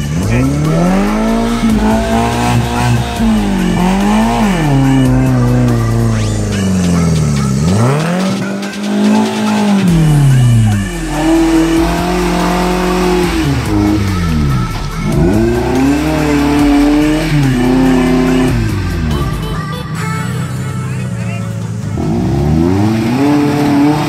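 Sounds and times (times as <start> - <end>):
engine revving hard: 0.0 - 19.6, 22.0 - 24.0.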